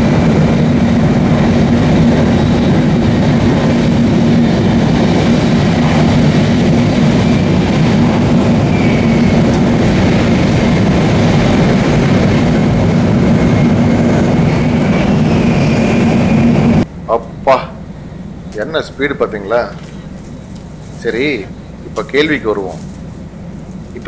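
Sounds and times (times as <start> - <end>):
high-speed train running: 0.0 - 24.0.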